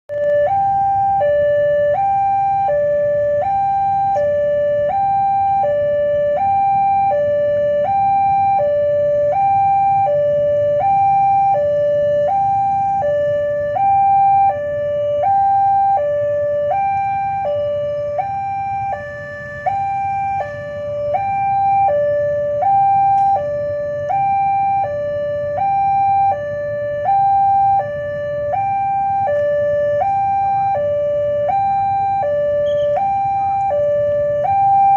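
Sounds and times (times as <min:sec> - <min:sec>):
two-tone siren: 0:00.1 - 0:34.9.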